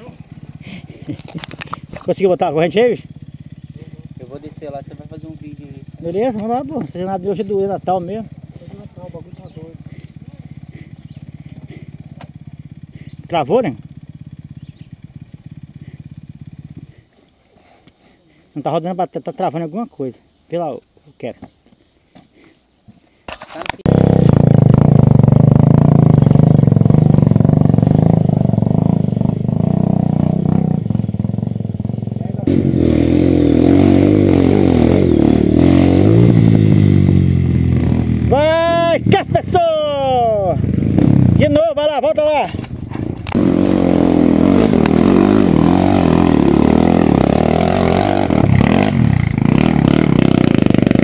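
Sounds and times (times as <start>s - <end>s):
motorcycle engine running: 0.0s - 17.5s, 23.8s - 51.0s.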